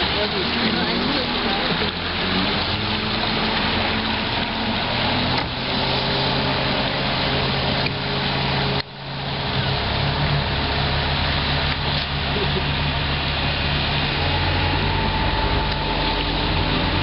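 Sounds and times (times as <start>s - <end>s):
outboard motor running: 0.0s - 17.0s
wind and water rushing: 0.0s - 17.0s.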